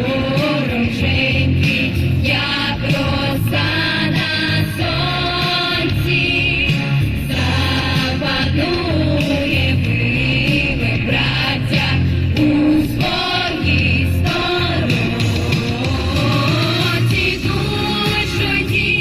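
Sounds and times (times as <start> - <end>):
instrumental accompaniment with bass: 0.0 - 19.0
vocal ensemble singing: 0.0 - 19.0.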